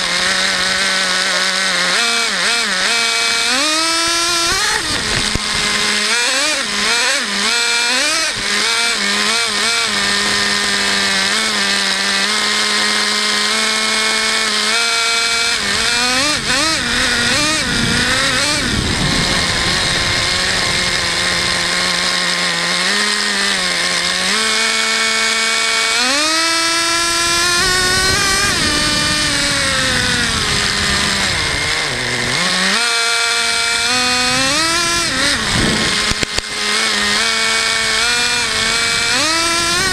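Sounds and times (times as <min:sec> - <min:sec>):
nitro rc car engine revving: 0:00.0 - 0:39.9.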